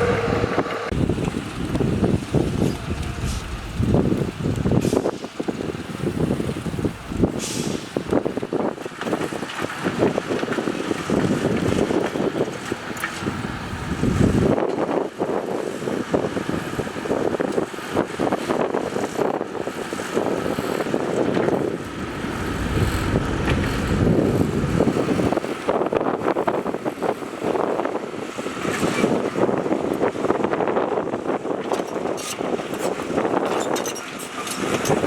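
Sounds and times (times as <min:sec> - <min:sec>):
diesel engine rumble: 0:00.0 - 0:35.0
wind noise on microphone: 0:00.0 - 0:35.0.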